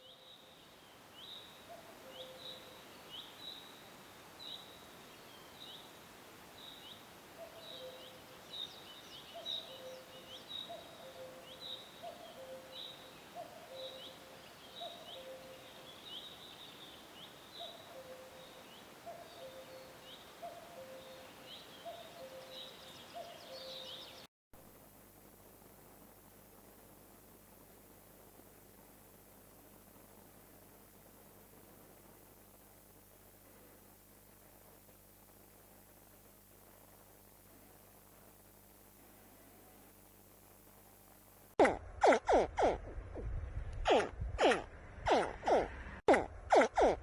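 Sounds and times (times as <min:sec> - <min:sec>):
steady background hiss: 0:00.0 - 0:42.6.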